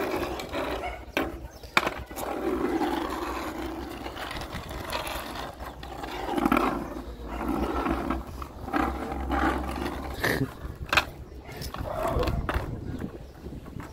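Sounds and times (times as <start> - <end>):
skateboard wheels scraping asphalt: 0.0 - 13.9.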